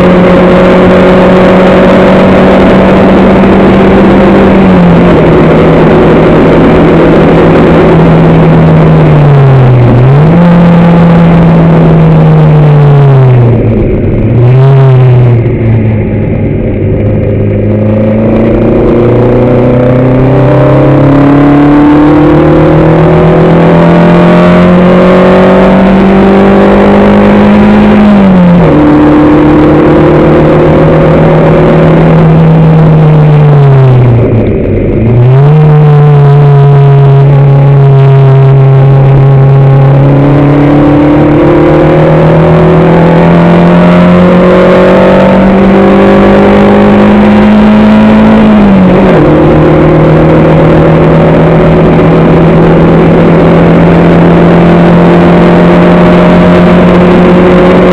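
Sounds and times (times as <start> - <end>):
racing engine revving: 0.0 - 57.9.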